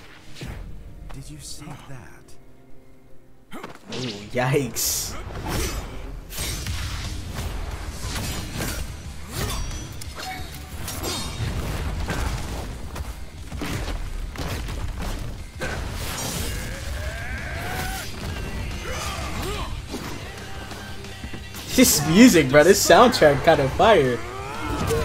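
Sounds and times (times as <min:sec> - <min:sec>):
action soundtrack music: 0:00.0 - 0:25.0.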